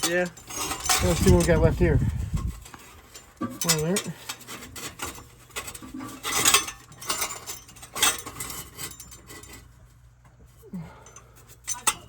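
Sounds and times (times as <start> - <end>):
metal exhaust parts rattling: 0.0 - 12.0.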